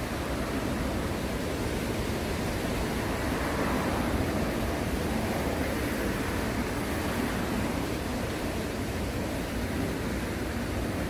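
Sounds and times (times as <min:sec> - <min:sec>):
waves washing onto beach: 0:00.0 - 0:11.0.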